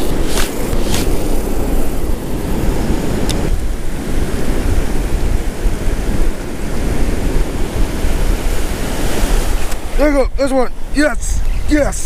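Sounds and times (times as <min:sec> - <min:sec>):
ocean surf washing in: 0:00.0 - 0:11.9
wind buffeting microphone: 0:00.0 - 0:12.0.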